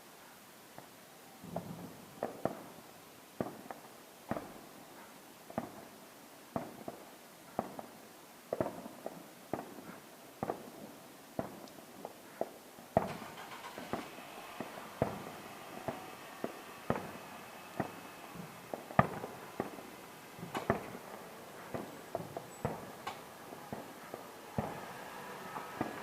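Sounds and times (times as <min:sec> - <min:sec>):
fireworks crackling: 0:00.7 - 0:26.0.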